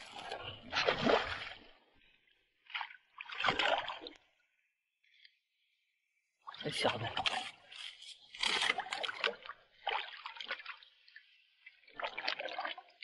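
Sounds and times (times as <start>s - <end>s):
water splashing and trickling: 0.0s - 4.6s, 6.4s - 13.0s.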